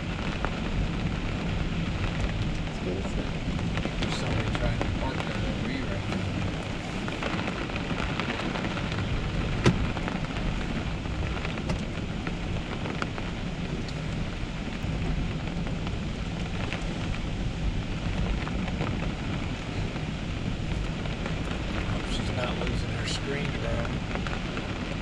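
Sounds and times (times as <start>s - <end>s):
low wind rumble: 0.0s - 25.0s
rain falling: 0.0s - 25.0s.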